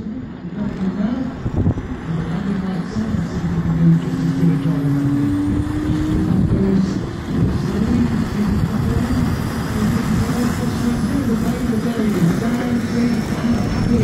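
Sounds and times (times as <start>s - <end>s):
model plane engines droning: 0.0s - 14.0s.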